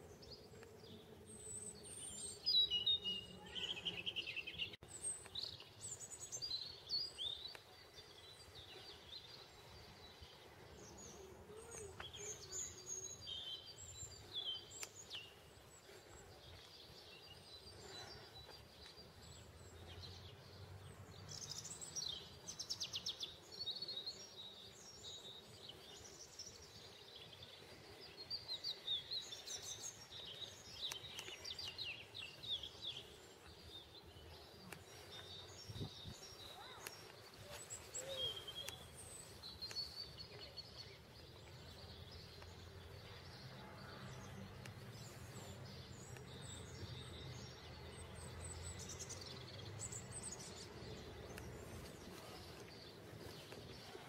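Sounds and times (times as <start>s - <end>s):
birds chirping and singing: 0.0s - 54.0s
faint outdoor background noise: 0.0s - 54.0s.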